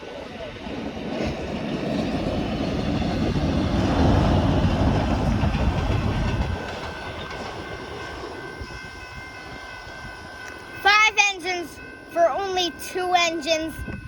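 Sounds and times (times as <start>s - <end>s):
train passing: 0.0s - 14.0s.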